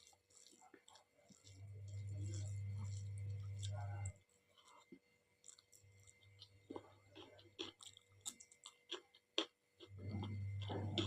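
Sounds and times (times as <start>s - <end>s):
wet chewing smacks and clicks: 0.0s - 11.0s.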